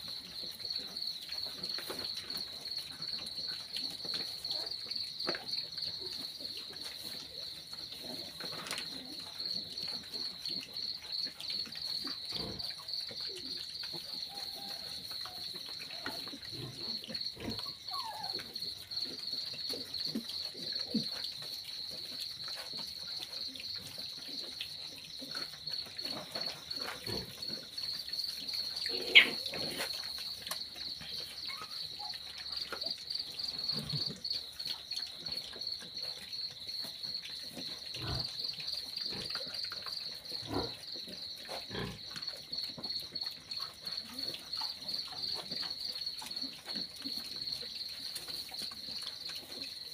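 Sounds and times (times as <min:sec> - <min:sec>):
crickets chirping: 0:00.0 - 0:49.9
piglets rooting in straw: 0:00.0 - 0:49.9.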